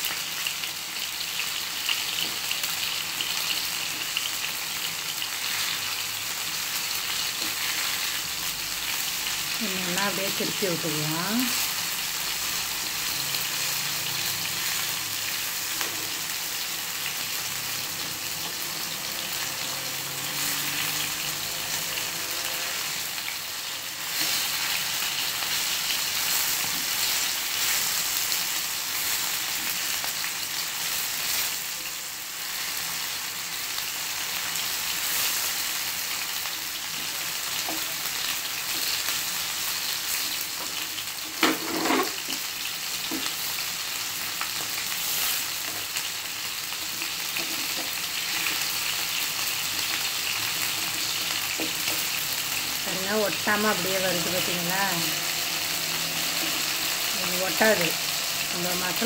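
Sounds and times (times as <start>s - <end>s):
food sizzling in hot oil: 0.0s - 59.0s.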